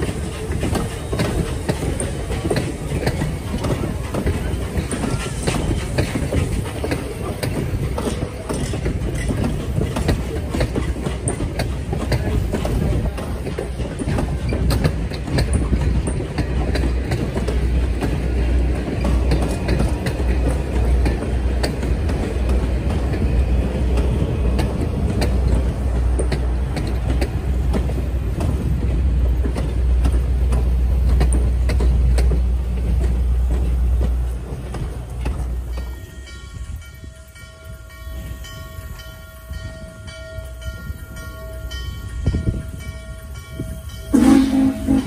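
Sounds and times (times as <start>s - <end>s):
train rumbling past: 0.0s - 45.0s
wheels clicking on track: 0.0s - 45.0s.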